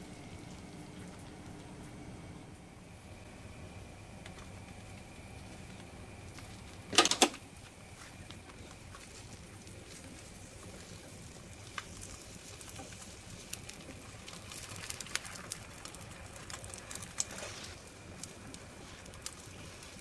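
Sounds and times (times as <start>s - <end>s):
omelette sizzling in pan: 2.7s - 20.0s.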